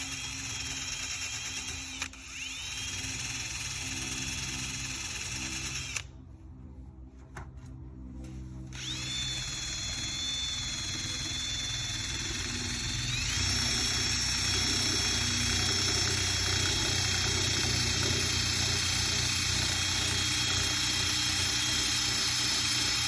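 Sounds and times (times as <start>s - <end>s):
electric sander whining: 0.0s - 6.1s, 8.7s - 23.0s.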